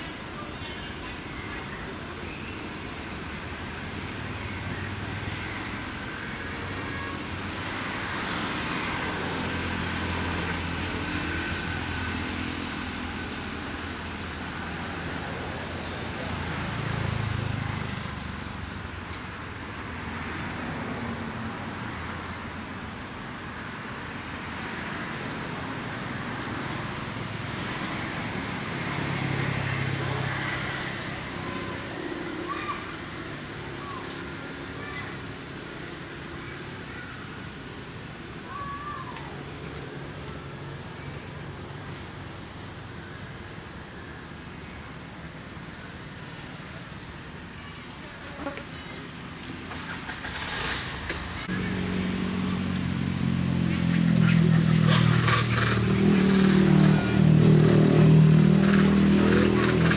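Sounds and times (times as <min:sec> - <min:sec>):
outdoor background noise: 0:00.0 - 0:59.9
vehicle engine hum passing: 0:02.8 - 0:23.8, 0:24.4 - 0:42.9, 0:48.0 - 0:59.9.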